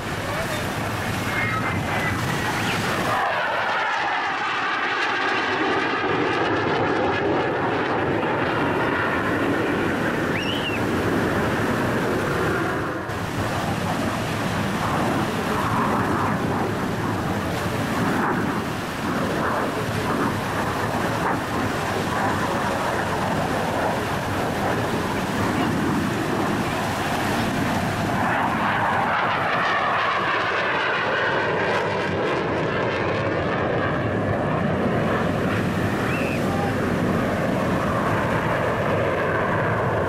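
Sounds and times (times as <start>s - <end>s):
jet engine roaring: 0.0s - 40.0s.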